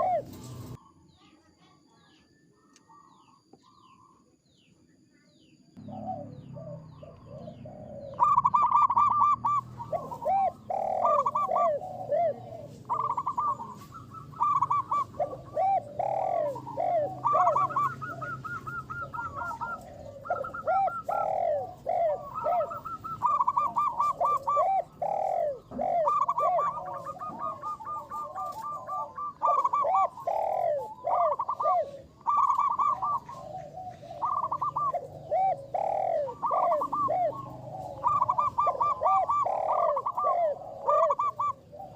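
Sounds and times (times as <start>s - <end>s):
dove cooing: 0.0s - 0.9s, 5.8s - 41.9s.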